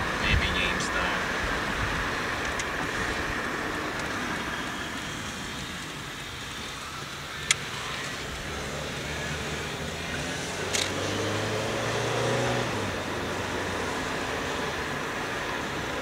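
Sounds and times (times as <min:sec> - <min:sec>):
car cabin road and engine noise: 0:00.0 - 0:16.0.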